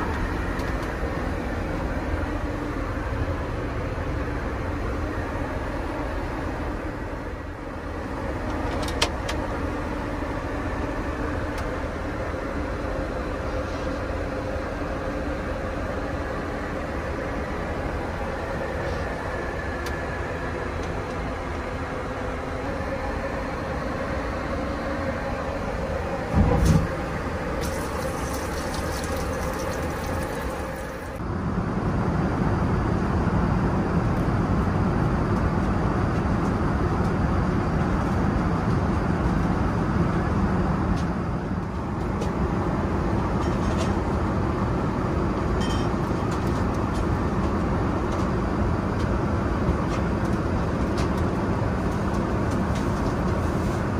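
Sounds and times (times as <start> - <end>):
airplane cabin noise: 0.0 - 53.9.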